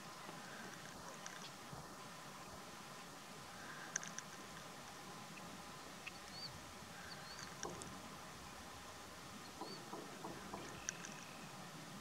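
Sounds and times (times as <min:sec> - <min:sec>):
faint outdoor background hiss: 0:00.0 - 0:12.0.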